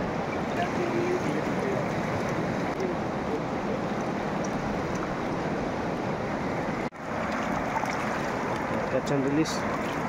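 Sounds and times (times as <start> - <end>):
river water rushing past rocks: 0.0 - 10.0.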